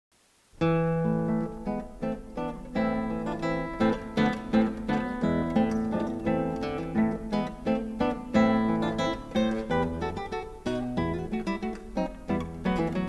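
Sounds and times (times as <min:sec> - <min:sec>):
acoustic guitar strumming chords: 0:00.6 - 0:13.0.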